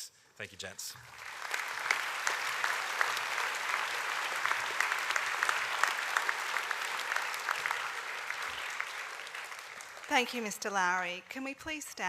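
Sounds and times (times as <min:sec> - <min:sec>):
audience applause: 0:01.0 - 0:11.0.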